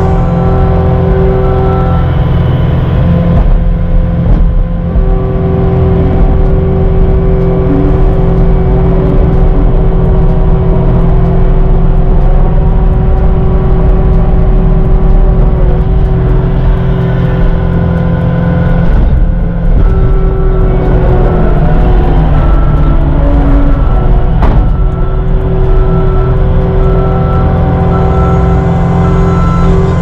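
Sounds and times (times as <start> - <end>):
loader diesel engine running hard: 0.0 - 30.0.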